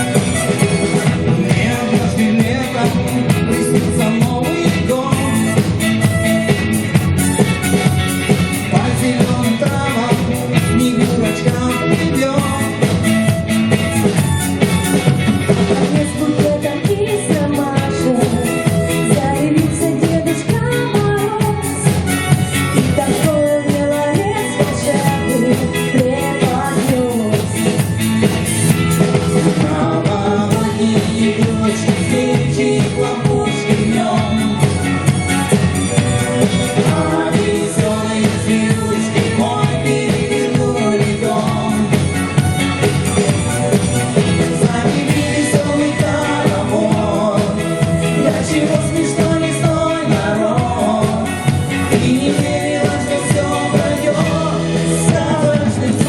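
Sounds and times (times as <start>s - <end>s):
person singing: 0.0s - 6.6s, 7.2s - 56.0s
drum beat: 0.0s - 56.0s
guitars: 0.0s - 56.0s
keyboards: 0.0s - 56.0s.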